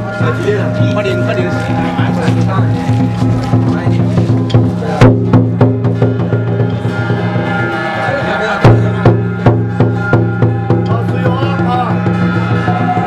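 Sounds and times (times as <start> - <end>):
drum and wood block strikes: 0.0 - 7.8, 8.5 - 13.0.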